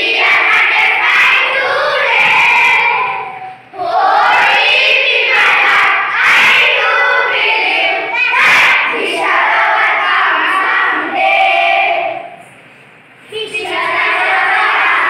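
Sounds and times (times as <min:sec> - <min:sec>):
children singing together: 0:00.0 - 0:12.6, 0:13.4 - 0:15.0.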